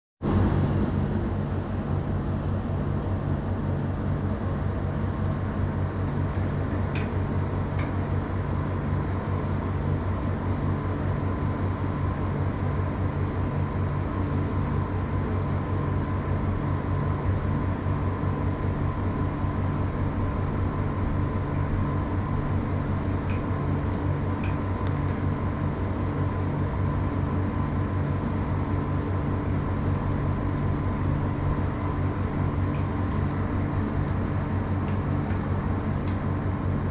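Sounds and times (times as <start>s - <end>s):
low machine hum: 0.2s - 36.9s.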